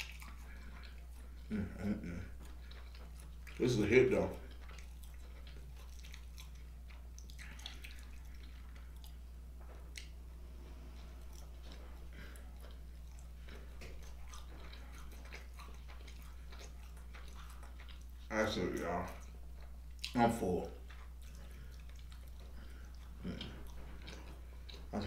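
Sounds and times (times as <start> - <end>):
low hum: 0.0 - 25.0
man chewing: 0.0 - 25.0.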